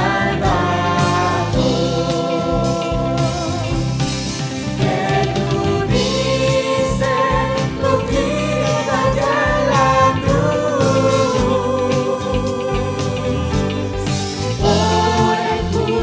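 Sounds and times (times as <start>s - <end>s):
choir singing a hymn: 0.0s - 16.0s
drum kit beat: 0.0s - 16.0s.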